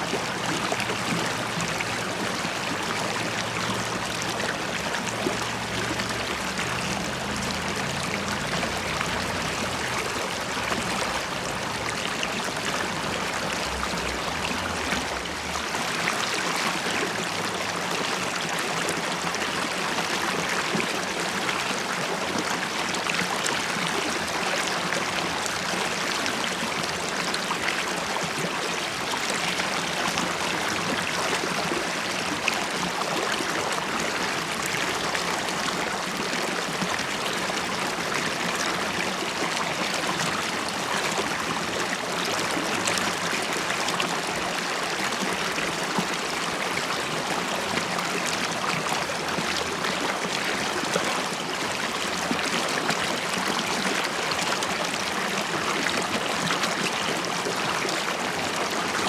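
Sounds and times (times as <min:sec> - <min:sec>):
river water flowing and bubbling: 0:00.0 - 0:59.0.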